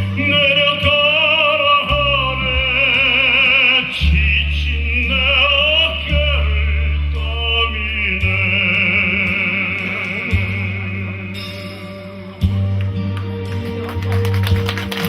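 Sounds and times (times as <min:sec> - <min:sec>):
held low bass notes: 0:00.0 - 0:14.6.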